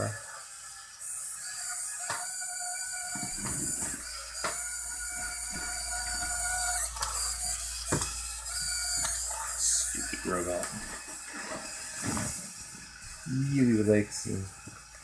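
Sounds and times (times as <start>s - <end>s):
small motors whining: 0.0s - 15.0s.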